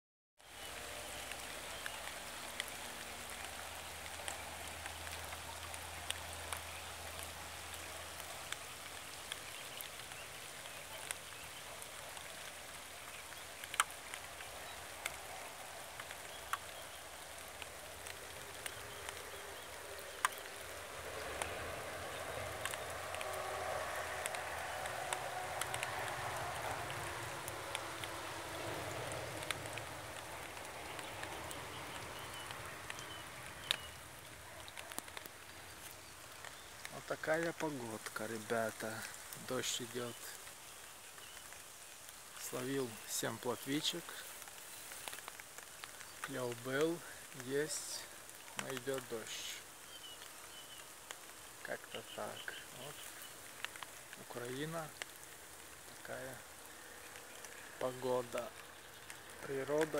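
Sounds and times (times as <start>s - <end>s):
rain falling on water: 0.4s - 59.9s
raindrops tapping close by: 0.4s - 59.9s.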